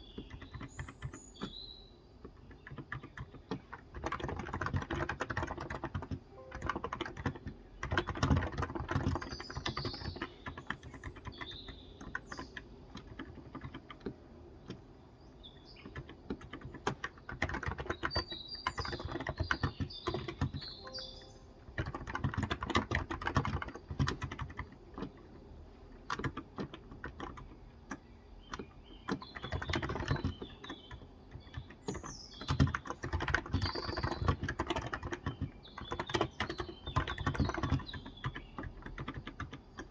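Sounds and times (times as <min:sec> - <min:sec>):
keyboard key clicks: 0:00.0 - 0:01.6, 0:02.2 - 0:14.8, 0:15.6 - 0:25.4, 0:26.0 - 0:39.9
birds chirping: 0:00.0 - 0:25.5, 0:26.7 - 0:39.9.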